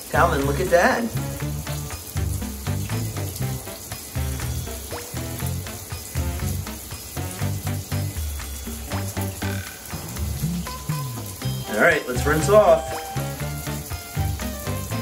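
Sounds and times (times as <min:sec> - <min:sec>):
shower spray hissing: 0:00.0 - 0:15.0
music with bouncy bass line: 0:00.4 - 0:15.0.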